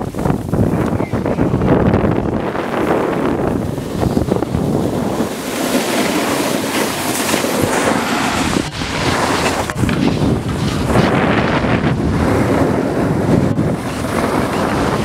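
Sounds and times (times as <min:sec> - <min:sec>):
board sliding over snow: 0:00.0 - 0:15.0
wind on microphone: 0:00.0 - 0:15.0.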